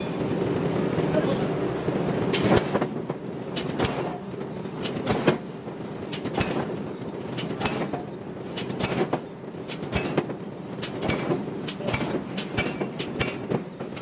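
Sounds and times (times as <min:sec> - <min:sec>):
metal clanks and knocks: 0:02.2 - 0:14.0.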